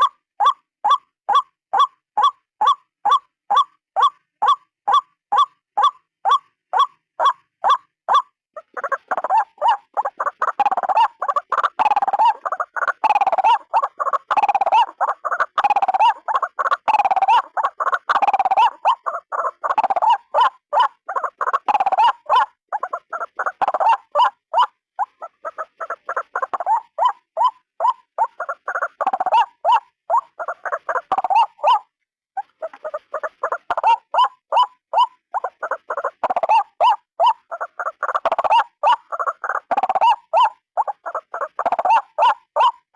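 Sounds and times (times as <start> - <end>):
waterhen calling: 0.0 - 42.9.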